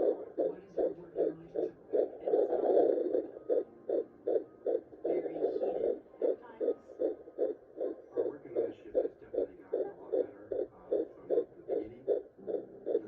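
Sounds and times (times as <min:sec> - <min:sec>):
fetal heartbeat whooshing pulses: 0:00.0 - 0:13.0.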